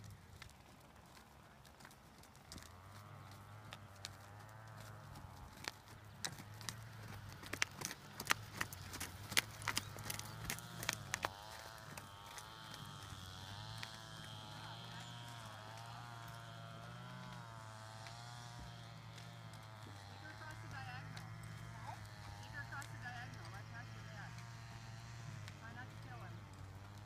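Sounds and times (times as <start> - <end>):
horse hooves trotting on dirt: 0.0 - 27.0
motor drone: 2.5 - 27.0.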